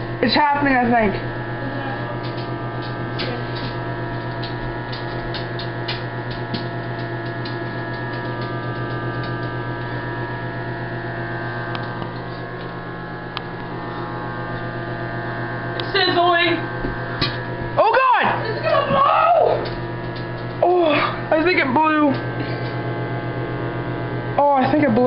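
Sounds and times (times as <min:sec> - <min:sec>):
microwave oven humming: 0:00.0 - 0:25.0.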